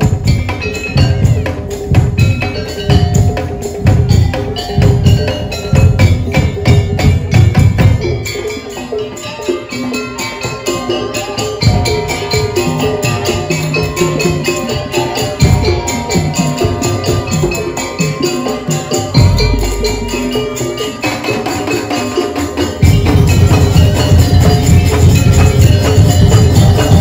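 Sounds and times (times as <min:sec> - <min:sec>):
heavy drumming: 0:00.0 - 0:27.0
percussion ensemble playing: 0:00.0 - 0:27.0
pitched percussion melody: 0:00.0 - 0:27.0.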